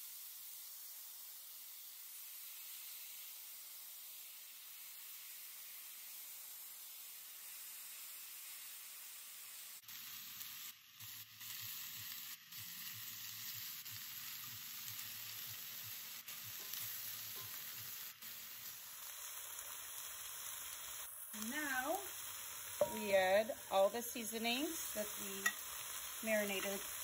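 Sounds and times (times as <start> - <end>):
meat sizzling in hot oil: 0.0 - 27.0.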